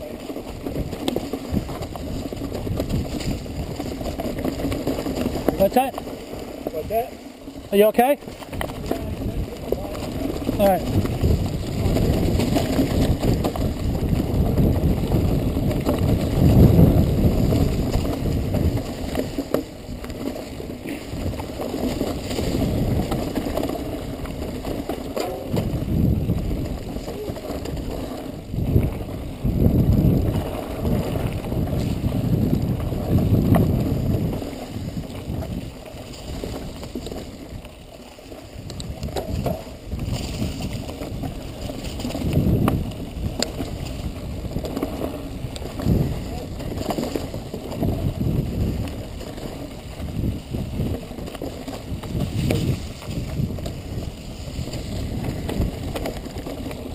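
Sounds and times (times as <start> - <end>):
bike rolling on dirt trail: 0.0 - 56.9
wind over microphone: 0.0 - 56.9.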